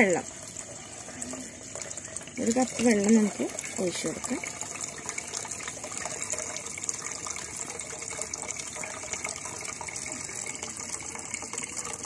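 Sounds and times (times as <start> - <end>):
water pouring into a pot: 0.0 - 12.0.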